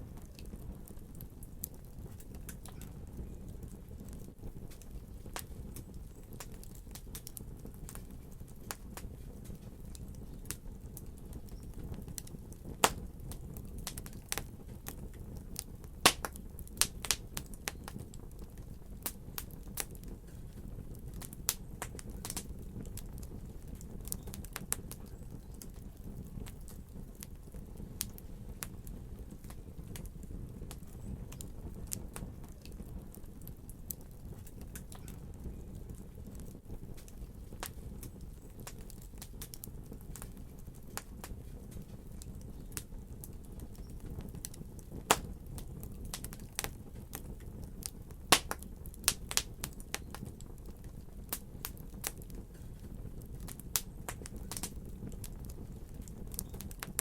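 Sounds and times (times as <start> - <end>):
fire crackling and popping: 0.0 - 57.0
fire flames rumbling: 0.0 - 57.0.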